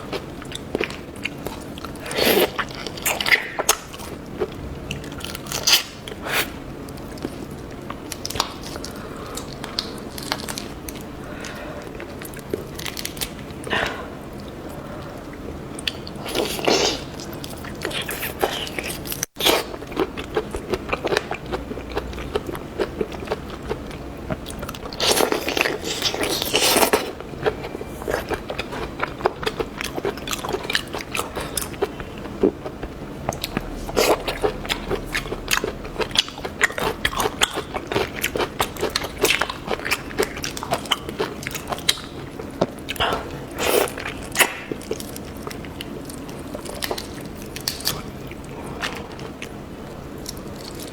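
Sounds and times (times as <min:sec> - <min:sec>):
person chewing crunchy seafood: 0:00.0 - 0:50.9.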